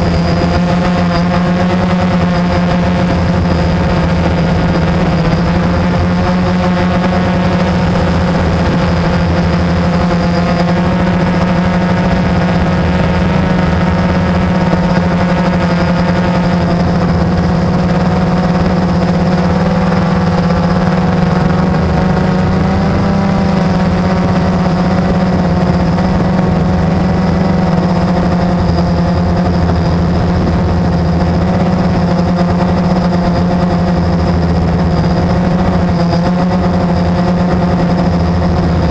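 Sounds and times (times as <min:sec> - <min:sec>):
quadcopter propellers buzzing: 0:00.0 - 0:38.9.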